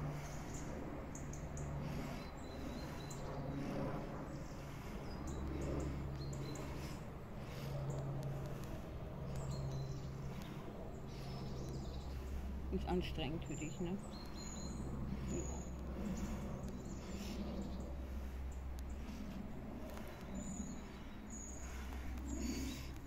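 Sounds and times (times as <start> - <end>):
airplane drone overhead: 0.0 - 23.0
small birds chirping: 0.0 - 23.0.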